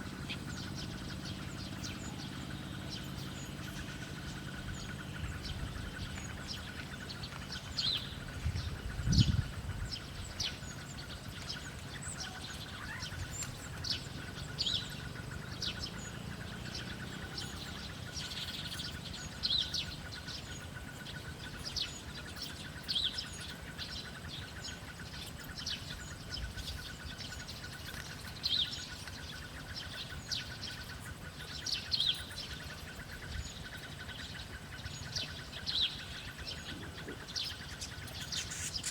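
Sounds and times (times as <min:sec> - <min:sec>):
faint high hum: 0:00.0 - 0:38.9
small birds chirping: 0:00.0 - 0:38.9.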